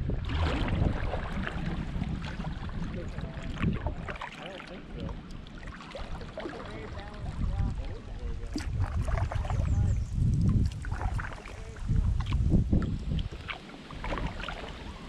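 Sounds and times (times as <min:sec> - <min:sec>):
water lapping around kayak: 0:00.0 - 0:15.0
wind buffeting microphone: 0:00.0 - 0:15.0.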